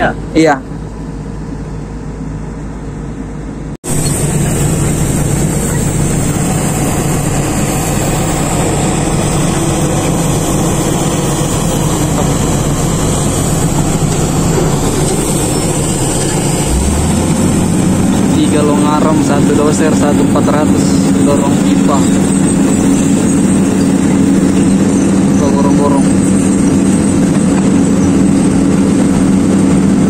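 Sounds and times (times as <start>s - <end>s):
excavator diesel engines running: 0.0s - 30.0s.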